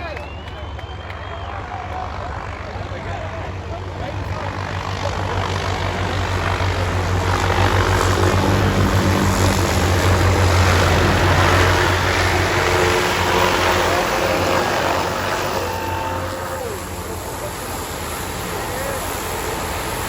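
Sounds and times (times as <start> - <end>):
aircraft engine flying by: 0.0 - 20.0.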